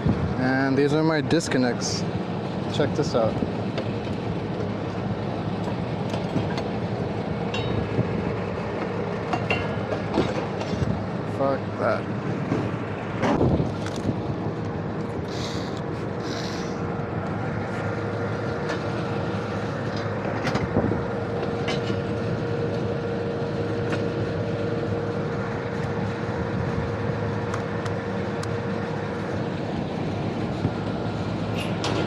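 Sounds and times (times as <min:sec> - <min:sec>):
hvac equipment humming: 0:00.0 - 0:32.0.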